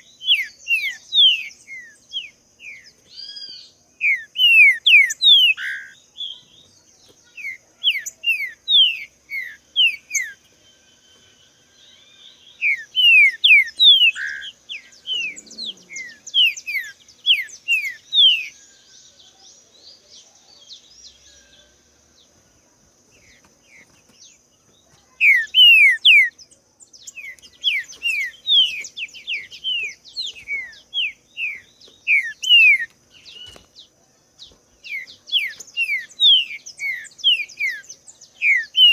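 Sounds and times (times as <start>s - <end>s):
bird singing whistled notes: 0.0s - 22.3s, 23.2s - 38.9s
faint high-pitched hum: 0.0s - 38.9s.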